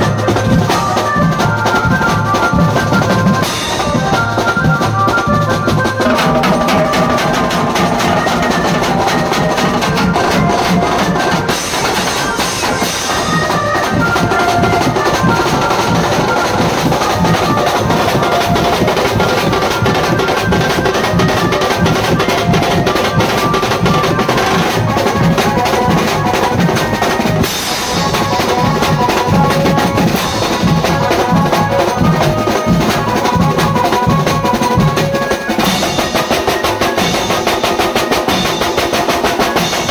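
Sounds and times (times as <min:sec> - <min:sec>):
street band drumming with melody: 0:00.0 - 0:39.9.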